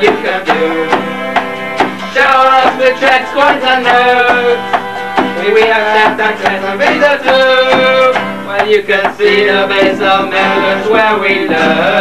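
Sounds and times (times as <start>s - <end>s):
instrumental melody over a beat: 0.0s - 12.0s.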